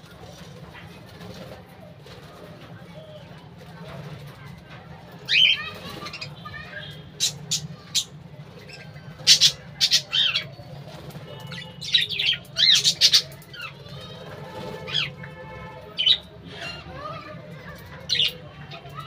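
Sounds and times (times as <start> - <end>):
parakeets chattering and squawking: 0.0 - 19.0.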